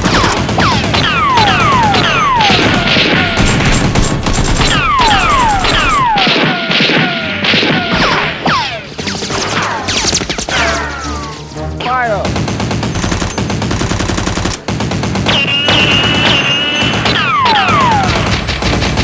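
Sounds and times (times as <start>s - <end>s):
rapid gunshots and impacts: 0.0s - 10.9s, 12.1s - 19.0s.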